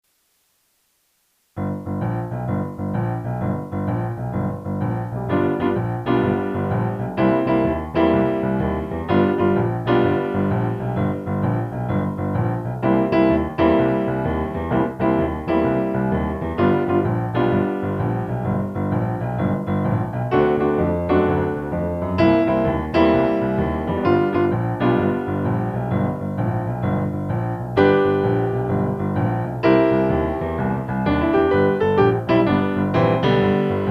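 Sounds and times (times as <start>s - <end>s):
piano playing chords: 1.6s - 33.9s.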